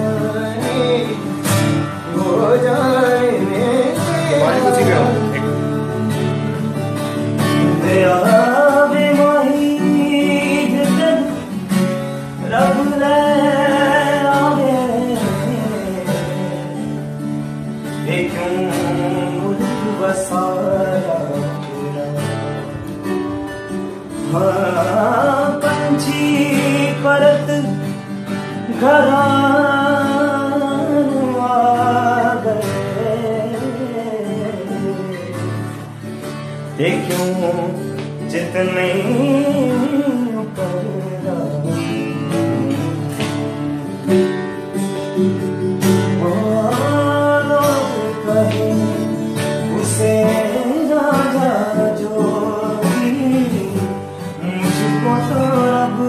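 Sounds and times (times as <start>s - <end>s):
man singing folk song: 0.0s - 56.0s
strummed acoustic guitar: 0.0s - 56.0s.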